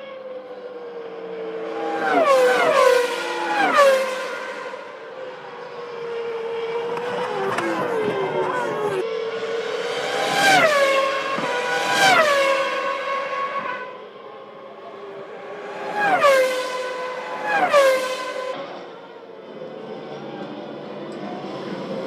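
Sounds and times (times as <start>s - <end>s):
race cars passing at full throttle: 0.0s - 22.0s.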